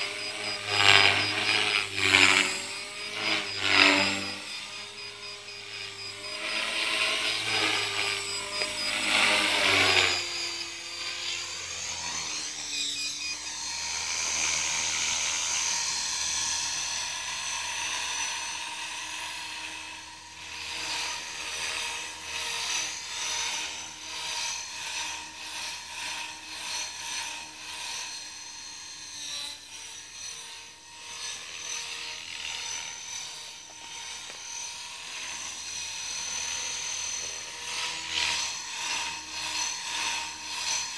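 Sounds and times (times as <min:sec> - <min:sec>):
rc helicopter motor whine: 0:00.0 - 0:40.9.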